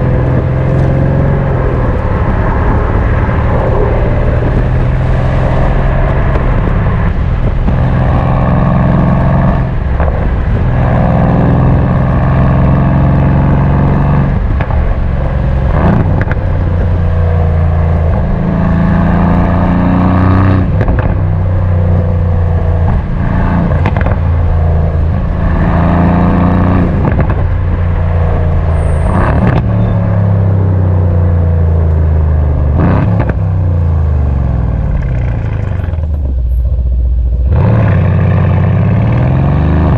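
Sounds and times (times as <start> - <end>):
exhaust cracking: 0.0 - 30.1, 31.0 - 39.9
car engine accelerating through gears: 0.0 - 39.9.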